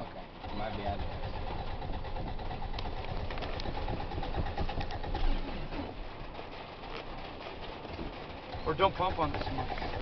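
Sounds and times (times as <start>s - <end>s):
car engine struggling to run: 0.0s - 10.0s.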